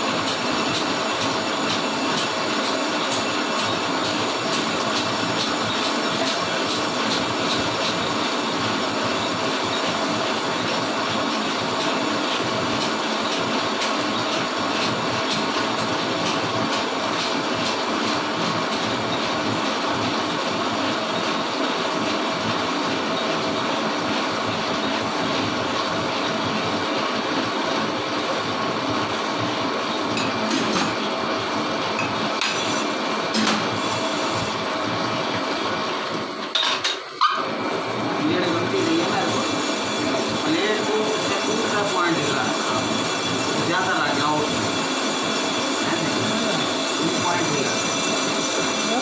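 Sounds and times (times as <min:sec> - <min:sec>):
lathe machining noise: 0:00.0 - 0:49.0.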